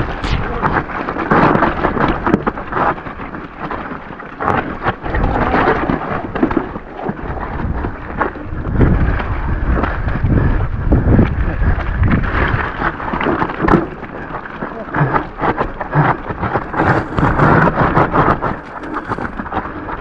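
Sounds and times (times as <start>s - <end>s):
wind buffeting microphone: 0.0s - 13.2s, 15.0s - 20.0s
mountain bike rattling on trail: 1.2s - 20.0s.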